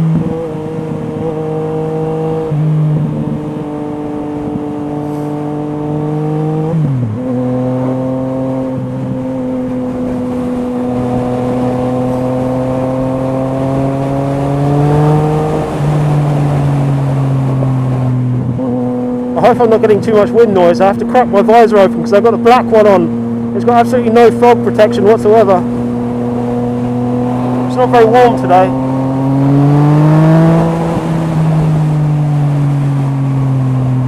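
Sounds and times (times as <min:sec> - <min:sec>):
motorcycle engine while riding: 0:00.0 - 0:34.0.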